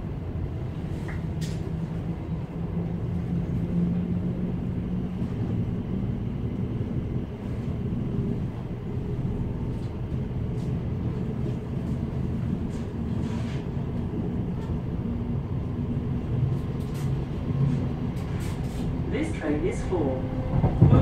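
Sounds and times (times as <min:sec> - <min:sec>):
wheels rumbling on track: 0:00.0 - 0:21.0.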